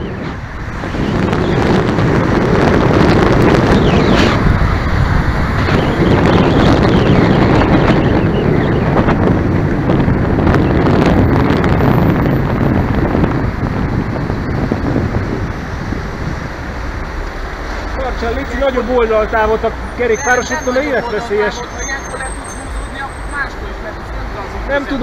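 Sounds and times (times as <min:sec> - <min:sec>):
wind rumble on microphone: 0:00.0 - 0:21.5
car traffic: 0:00.0 - 0:25.0.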